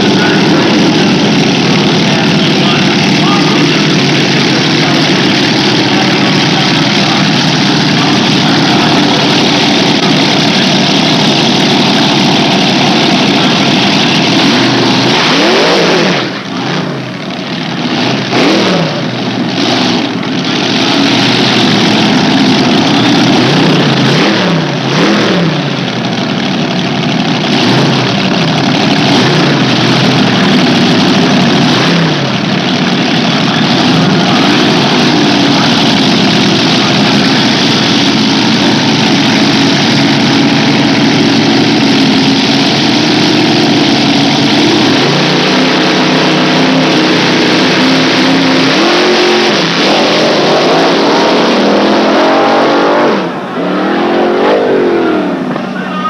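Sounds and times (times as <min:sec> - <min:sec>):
tractor engine revving high: 0:00.0 - 0:56.0.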